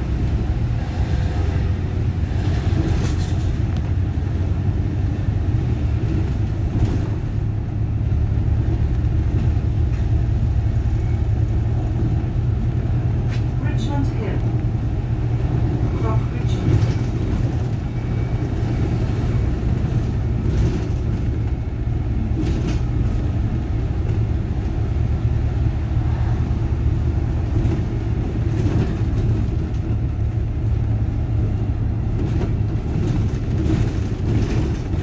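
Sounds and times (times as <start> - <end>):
bus engine drone: 0.0 - 35.0
road rumble: 0.0 - 35.0.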